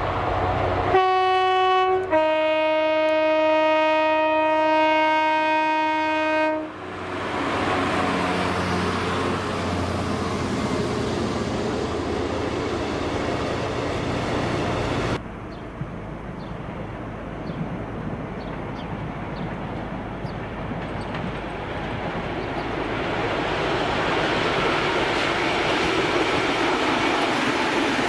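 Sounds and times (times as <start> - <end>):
train engine passing: 0.0 - 3.4, 6.2 - 28.0
low train rumble: 0.0 - 28.0.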